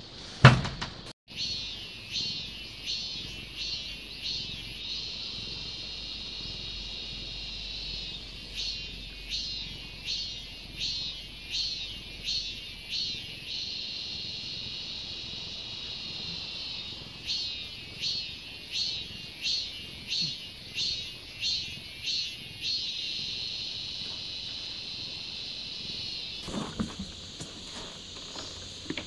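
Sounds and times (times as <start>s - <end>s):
cicadas pulsing drone: 1.3s - 29.0s.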